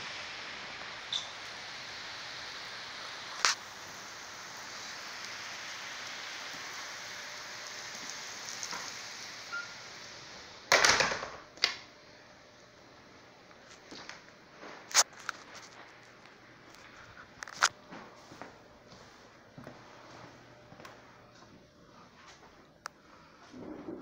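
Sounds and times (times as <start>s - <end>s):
room tone hiss: 0.0s - 24.0s.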